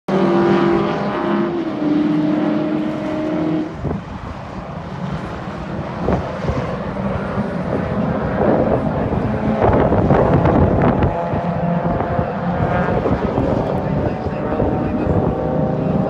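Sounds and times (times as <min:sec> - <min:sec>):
other car engines: 0:00.1 - 0:16.0
racing car engine passing: 0:00.1 - 0:16.0.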